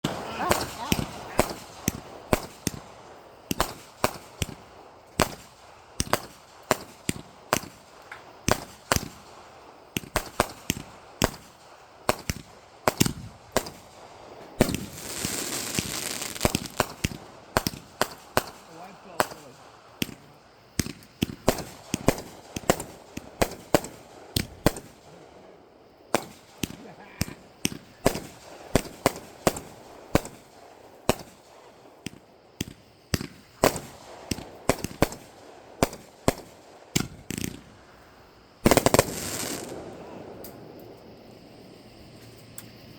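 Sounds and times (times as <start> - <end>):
fireworks popping and banging: 0.0 - 25.3, 26.1 - 37.8, 38.6 - 40.6
fireworks crackling burst: 0.0 - 40.8.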